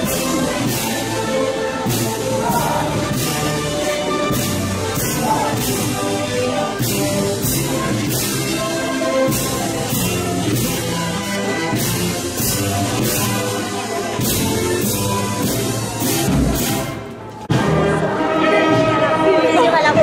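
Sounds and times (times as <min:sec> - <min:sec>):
processional band music: 0:00.0 - 0:20.0.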